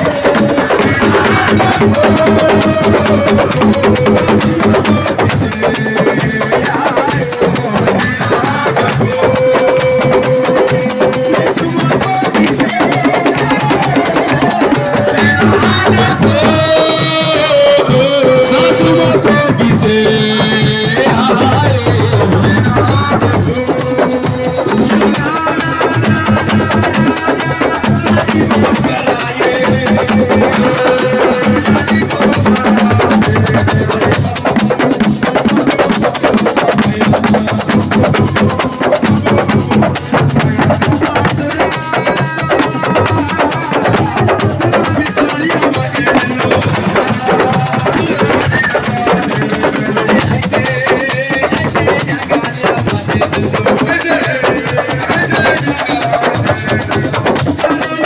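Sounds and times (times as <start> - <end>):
fast band drumming: 0.0 - 58.0
melody over drumming: 6.3 - 58.0.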